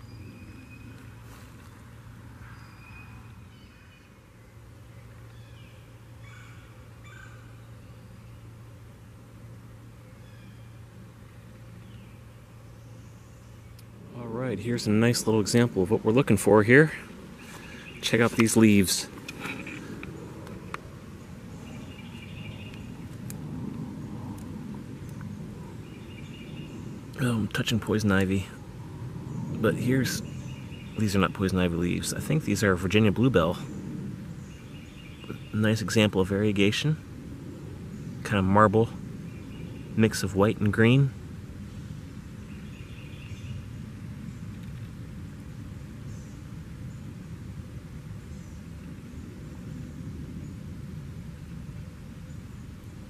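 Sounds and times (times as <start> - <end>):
low steady rumble: 0.0 - 53.0
steady low hum: 0.0 - 53.0.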